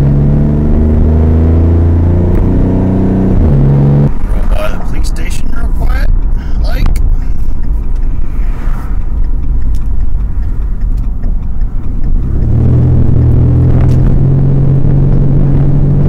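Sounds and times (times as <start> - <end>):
loud engine exhaust rumble: 0.0 - 16.0.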